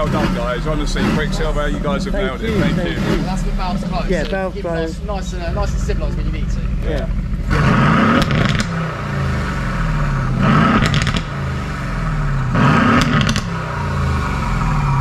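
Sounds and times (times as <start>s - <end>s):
car engine idling: 0.0s - 15.0s
car engine revving: 0.0s - 15.0s
exhaust crackles: 0.0s - 15.0s.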